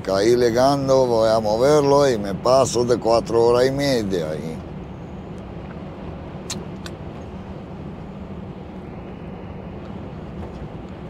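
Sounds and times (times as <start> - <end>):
lorry engine drone: 0.0 - 11.0
road noise: 0.0 - 11.0.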